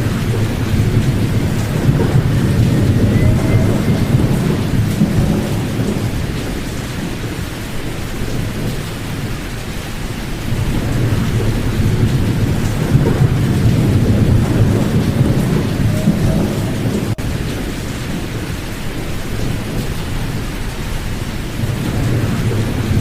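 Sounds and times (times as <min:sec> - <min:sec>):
pink noise deep hiss: 0:00.0 - 0:23.0.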